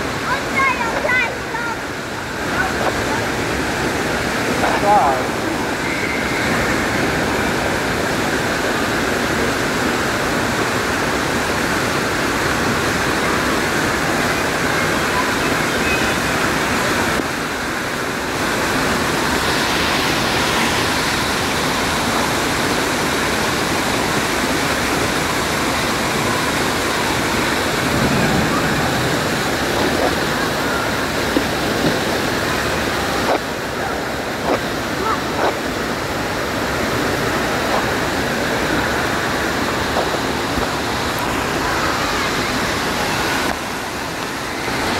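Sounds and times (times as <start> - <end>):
waterfall pouring into pool: 0.0 - 44.9.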